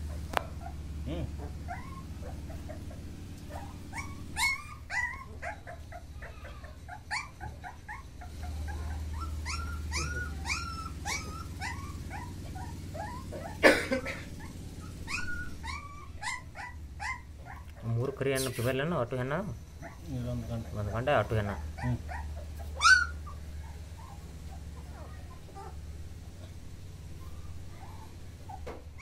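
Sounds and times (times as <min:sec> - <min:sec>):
puppies whimpering: 0:00.0 - 0:29.0.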